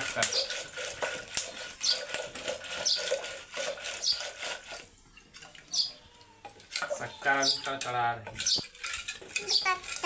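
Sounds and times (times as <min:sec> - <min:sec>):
wooden stick rattling in steel pot: 0:00.0 - 0:05.8, 0:06.4 - 0:10.0.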